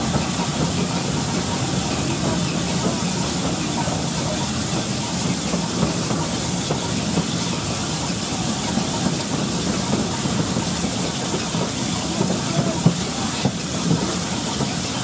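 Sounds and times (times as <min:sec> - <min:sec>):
steam hiss: 0:00.0 - 0:15.0
train wheels on rail: 0:00.0 - 0:15.0.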